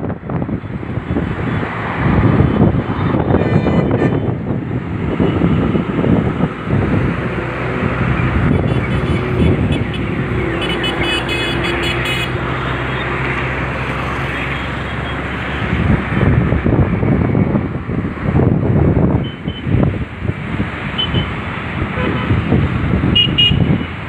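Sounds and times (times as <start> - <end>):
steady engine hum: 0.0 - 24.0
wind noise on microphone: 0.0 - 24.0.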